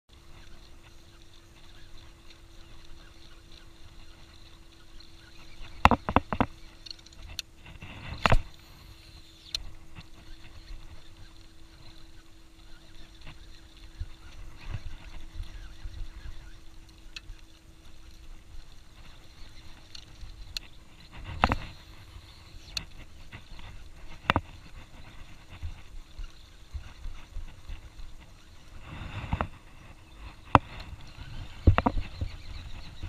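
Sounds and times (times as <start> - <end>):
faint steady hum: 0.1 - 33.0.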